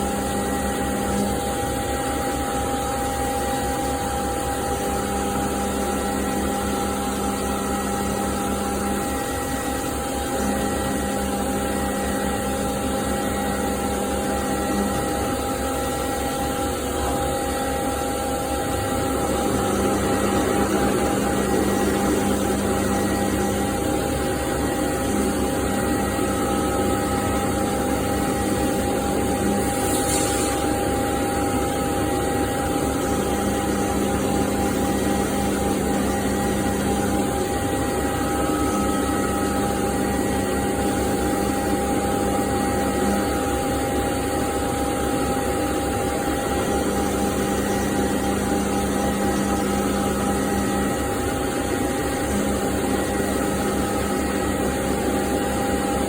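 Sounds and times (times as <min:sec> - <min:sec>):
low machine hum: 0:00.0 - 0:56.0
machine whine: 0:00.0 - 0:56.0.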